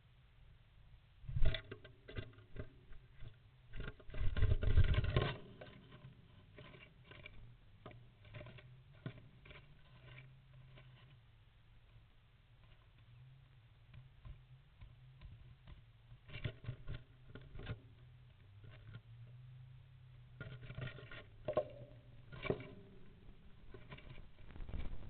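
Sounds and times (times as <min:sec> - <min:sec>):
scratching and scraping on wood: 0:01.3 - 0:25.0.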